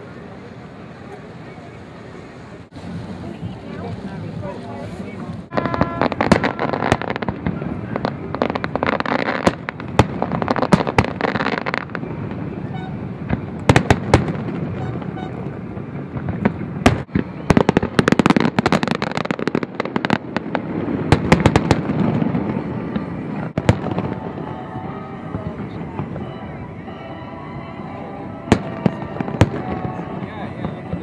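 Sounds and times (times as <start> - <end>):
fireworks bangs and crackling: 2.7 - 27.3, 28.2 - 31.0.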